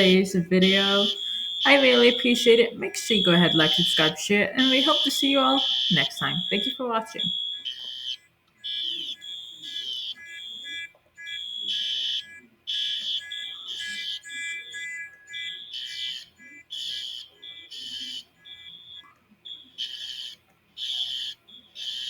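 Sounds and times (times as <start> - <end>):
fire alarm tones: 0.0 - 22.0.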